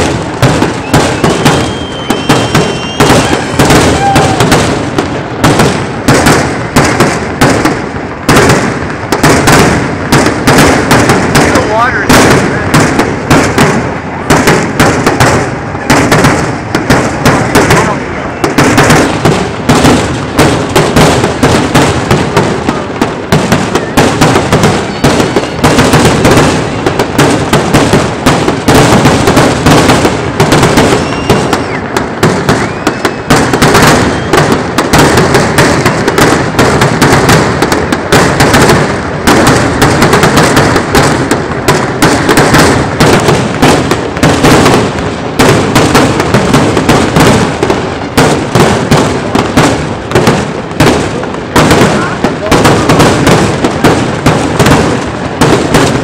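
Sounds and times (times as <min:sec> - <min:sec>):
fireworks shells bursting: 0:00.0 - 0:56.0.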